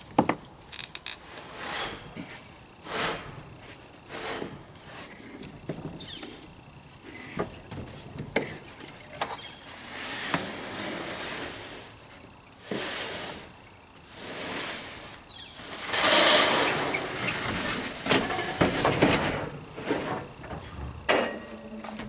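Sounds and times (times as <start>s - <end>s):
refrigerator scraping and sliding: 1.2s - 8.6s, 9.3s - 22.0s.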